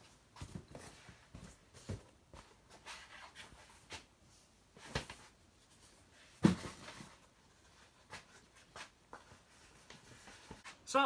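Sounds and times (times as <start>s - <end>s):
soft handling knocks and rustles: 0.0s - 10.8s.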